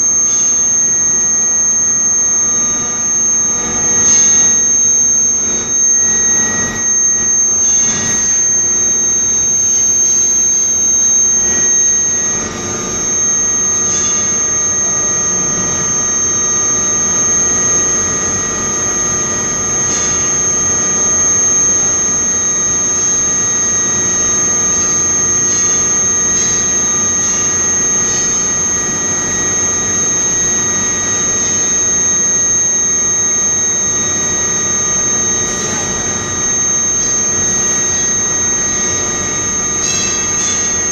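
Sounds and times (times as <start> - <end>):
furnace high-pitched whine: 0.0 - 40.9
loud machine noise: 0.0 - 40.9.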